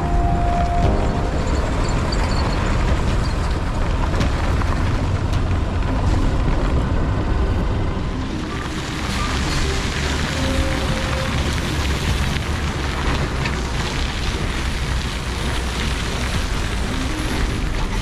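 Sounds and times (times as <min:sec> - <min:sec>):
vehicle rumbling on dirt road: 0:00.0 - 0:18.0.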